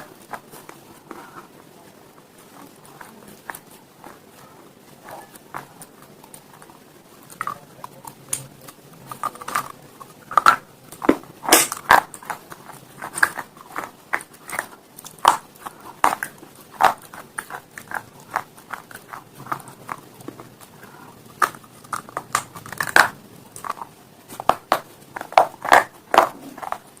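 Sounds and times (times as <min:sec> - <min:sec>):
crunching and chewing: 0:02.2 - 0:27.0.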